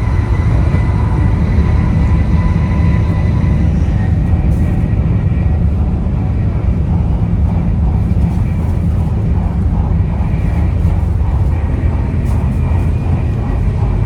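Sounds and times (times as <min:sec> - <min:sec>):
train running low rumble: 0:00.0 - 0:14.0.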